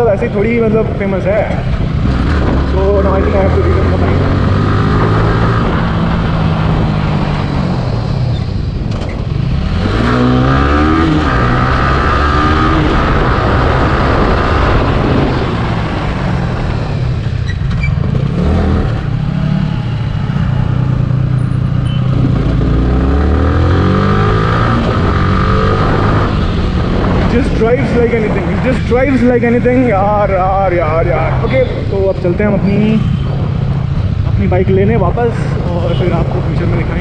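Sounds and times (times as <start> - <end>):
motorcycle engine revving: 1.7 - 37.0.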